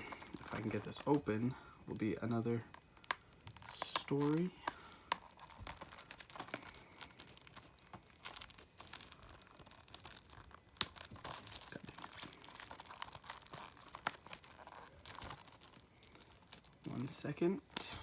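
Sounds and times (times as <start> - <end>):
plastic wrap crinkling and tearing: 0.0 - 18.0.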